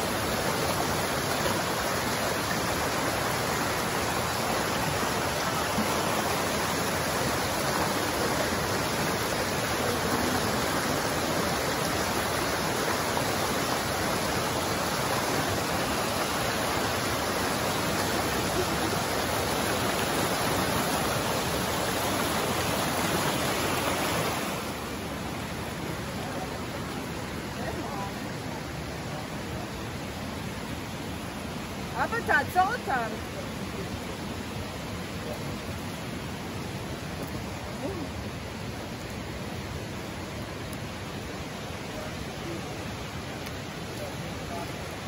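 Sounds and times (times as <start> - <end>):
creek rushing over rocks: 0.0 - 45.0.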